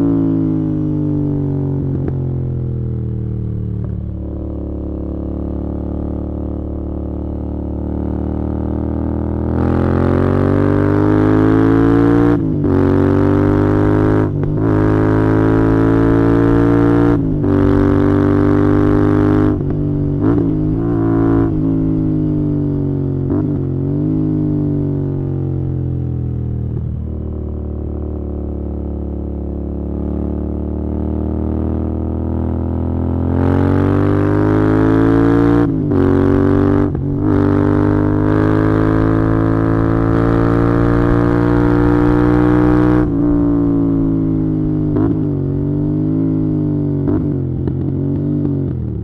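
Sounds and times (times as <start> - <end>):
motorcycle engine droning: 0.0 - 49.0.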